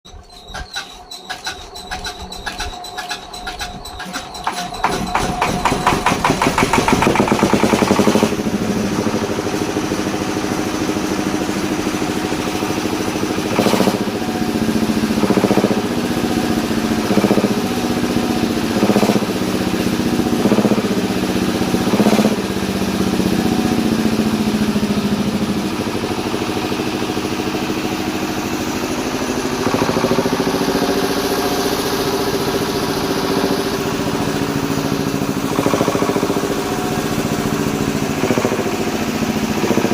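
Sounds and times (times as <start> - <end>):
generator engine running: 0.1 - 39.9.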